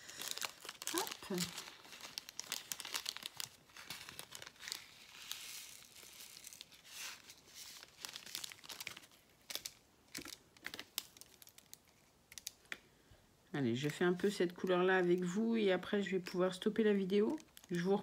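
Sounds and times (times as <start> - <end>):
plastic bag crinkling: 0.0 - 12.6, 13.7 - 18.0.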